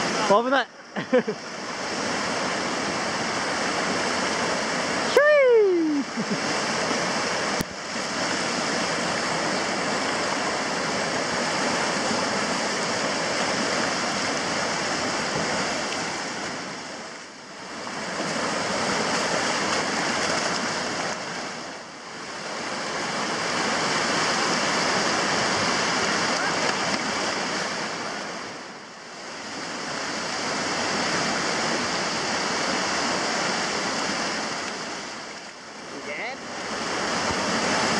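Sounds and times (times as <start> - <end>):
river rapids rushing: 0.0 - 37.9.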